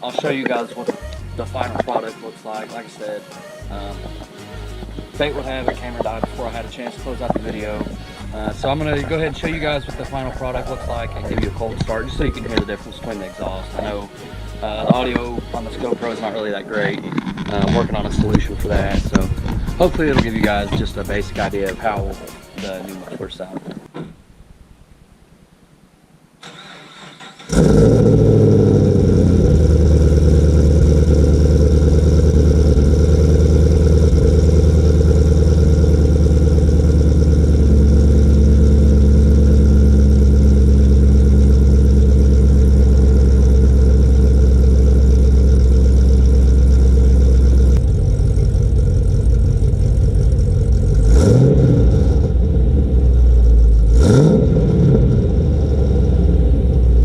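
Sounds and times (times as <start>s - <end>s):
car engine idling: 3.6s - 15.9s, 17.4s - 22.2s, 27.5s - 57.0s
car engine revving: 4.8s - 15.9s, 16.9s - 22.0s, 26.4s - 57.0s.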